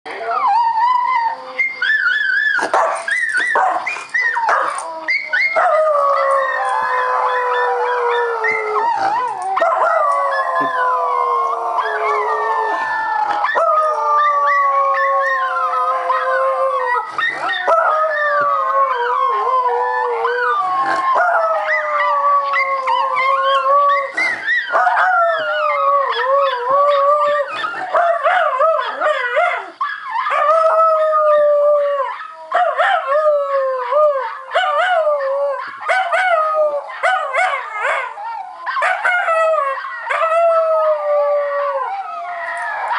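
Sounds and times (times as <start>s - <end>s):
dog howling: 0.1s - 42.9s.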